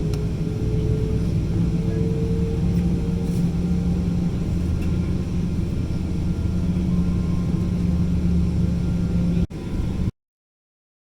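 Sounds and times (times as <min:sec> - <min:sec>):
airplane cabin hum: 0:00.0 - 0:10.1.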